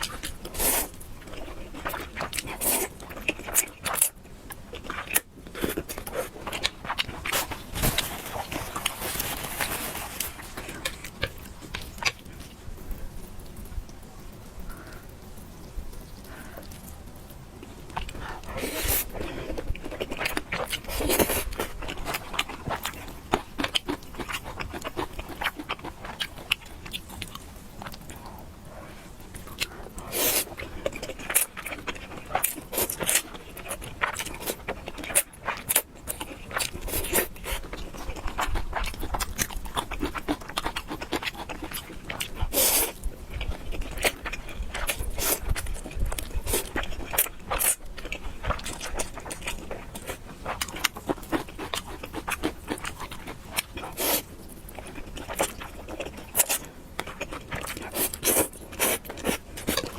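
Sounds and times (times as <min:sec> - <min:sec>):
person chewing noodles: 0:00.0 - 0:13.7, 0:14.6 - 0:59.9.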